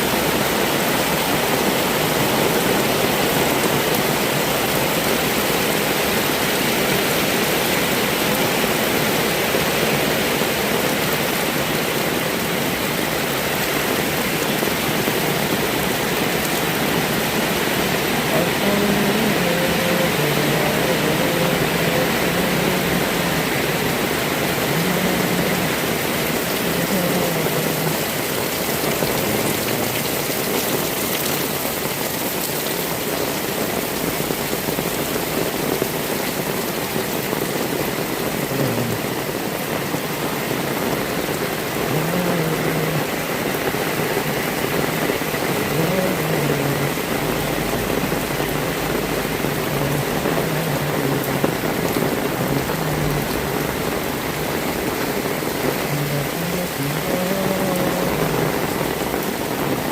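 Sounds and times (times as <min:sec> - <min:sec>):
heavy rain on wet surfaces: 0:00.0 - 0:59.9.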